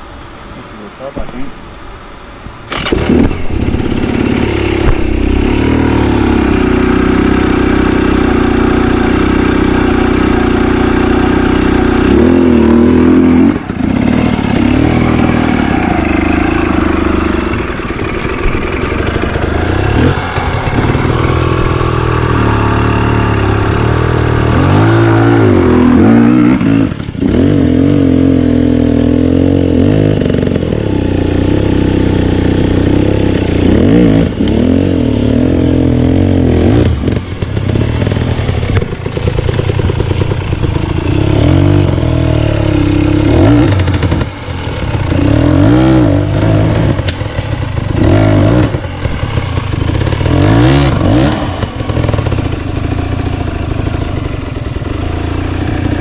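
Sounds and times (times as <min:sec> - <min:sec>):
dirt bike engine idling: 0:02.7 - 0:56.0
dirt bike revving hard: 0:02.7 - 0:56.0.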